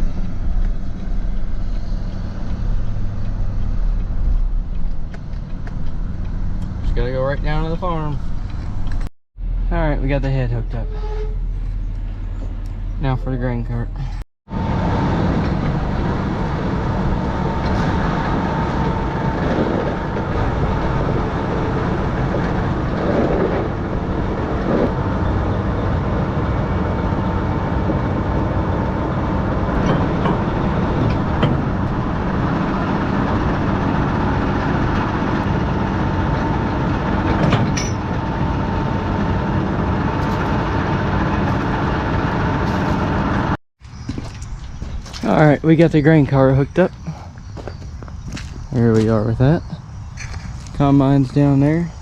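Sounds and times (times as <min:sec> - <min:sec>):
tractor engine running: 0:00.0 - 0:10.8, 0:11.4 - 0:49.6.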